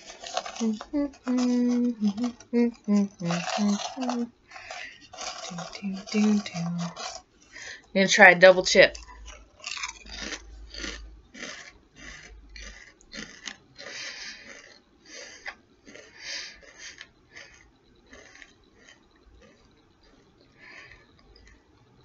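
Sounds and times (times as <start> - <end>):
person crunching potato chips: 0.0 - 22.0.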